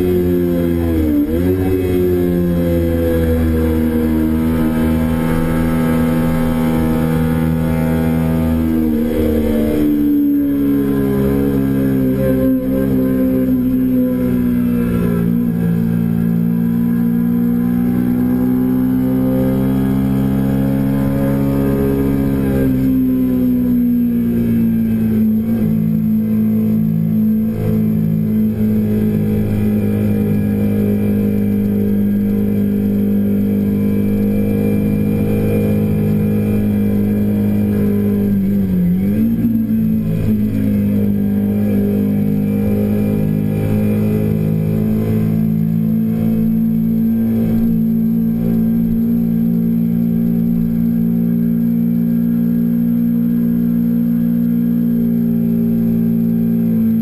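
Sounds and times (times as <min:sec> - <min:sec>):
motorcycle engine running hard: 0:00.0 - 0:57.0.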